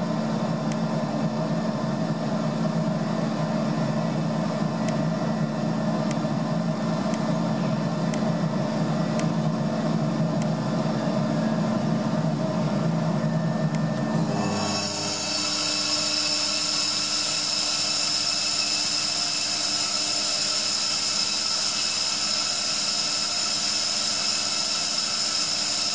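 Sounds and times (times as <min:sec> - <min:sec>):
air compressor humming: 0:00.0 - 0:25.9.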